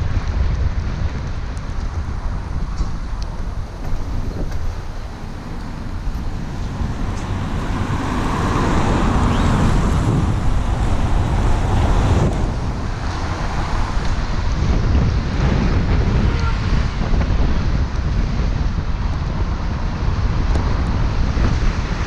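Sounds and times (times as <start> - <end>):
car road rumble: 0.0 - 22.0
wind buffeting microphone: 0.0 - 22.0.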